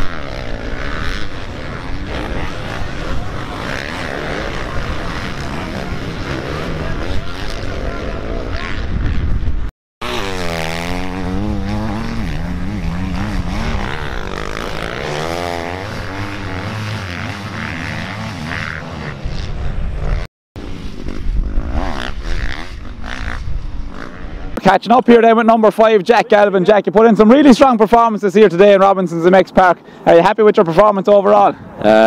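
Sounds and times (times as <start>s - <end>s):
motocross bike engines revving: 0.0s - 32.0s.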